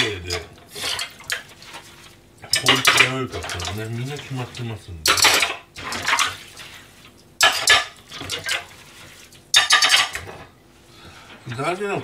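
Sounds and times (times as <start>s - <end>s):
plates and pans clattering in sink: 0.0s - 6.8s, 7.4s - 10.6s
water splashing: 0.3s - 10.2s.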